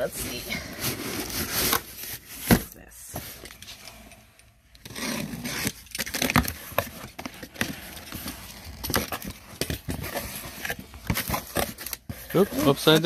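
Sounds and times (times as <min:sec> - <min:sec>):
packaging rustling and scraping: 0:00.0 - 0:04.2, 0:04.8 - 0:13.0.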